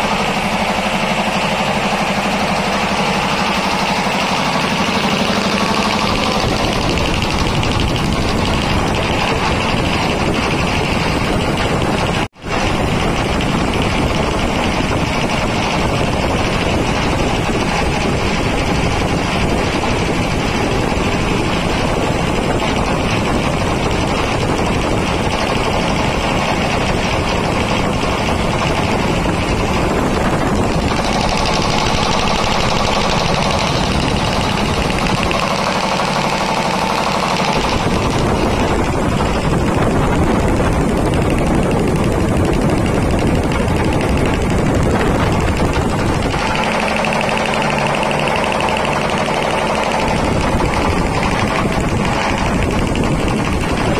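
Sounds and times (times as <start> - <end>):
air compressor clattering: 0.0 - 53.9.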